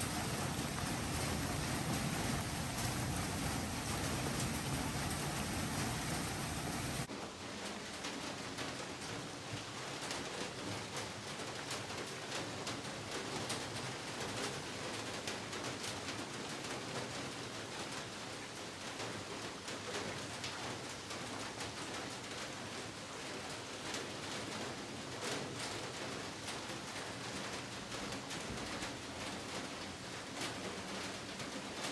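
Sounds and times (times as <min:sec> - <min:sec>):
heavy rain on a surface: 0:00.0 - 0:31.9.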